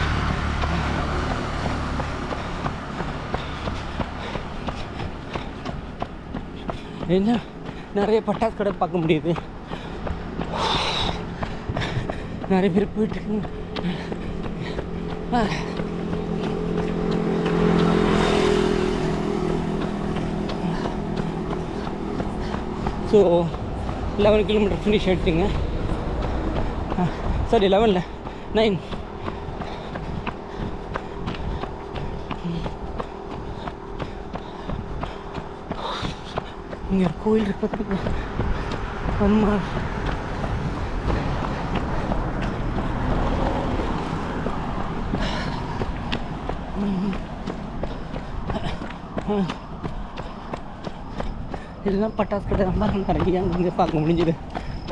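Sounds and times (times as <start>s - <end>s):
vehicle passing close: 0.0s - 54.9s
wind buffeting microphone: 0.0s - 54.9s.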